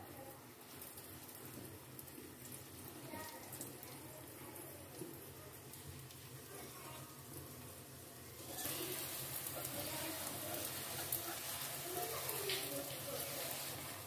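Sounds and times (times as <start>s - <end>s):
bread sizzling on a griddle: 0.0s - 14.0s.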